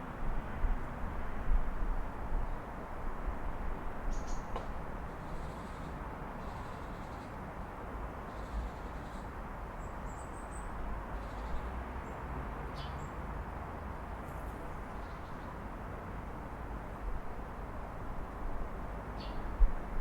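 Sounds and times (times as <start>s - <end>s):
city traffic hum: 0.0s - 20.0s.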